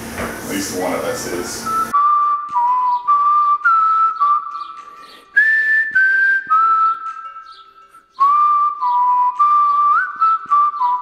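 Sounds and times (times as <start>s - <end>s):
light rhythmic backing: 0.0s - 11.0s
whistled melody: 1.6s - 11.0s.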